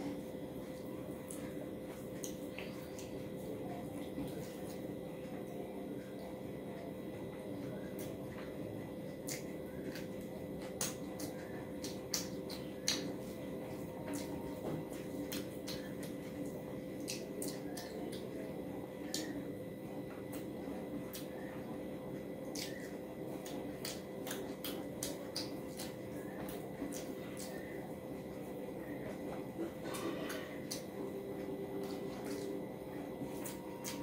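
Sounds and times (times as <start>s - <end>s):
wet chewing smacks: 0.0s - 6.4s, 7.5s - 19.4s, 20.0s - 21.6s, 22.2s - 34.0s
steady hum: 0.0s - 34.0s.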